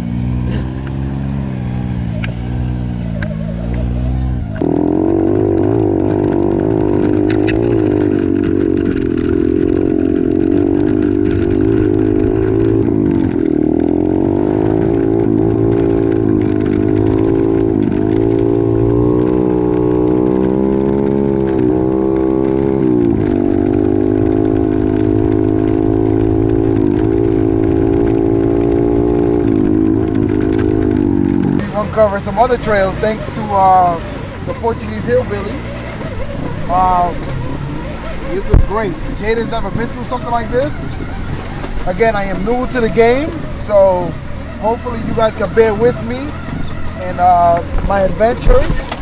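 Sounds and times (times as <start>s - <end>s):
off-road vehicle engine running: 0.0s - 49.0s.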